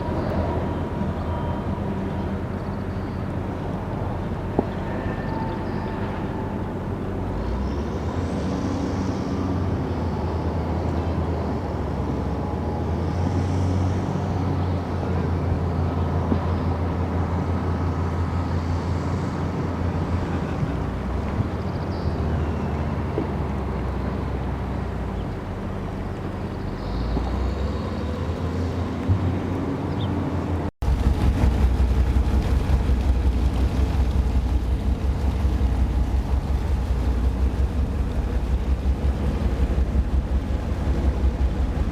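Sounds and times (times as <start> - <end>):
boat engines humming: 0.0 - 41.9.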